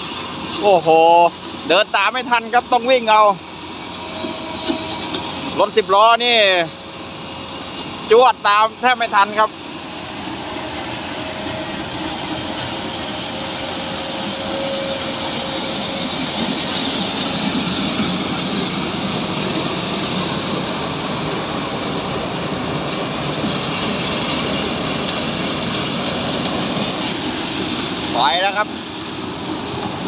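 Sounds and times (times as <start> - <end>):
truck engine: 0.0 - 30.0.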